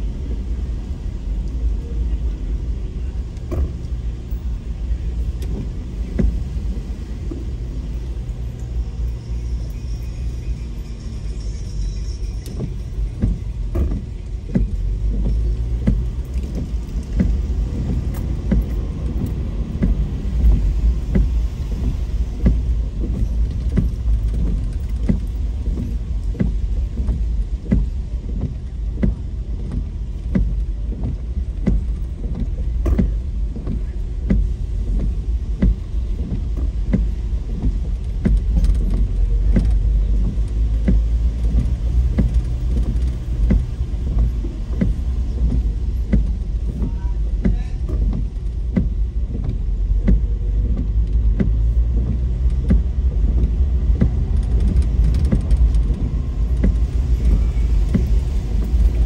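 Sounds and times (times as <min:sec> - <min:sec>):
car road rumble: 0:00.0 - 0:59.0.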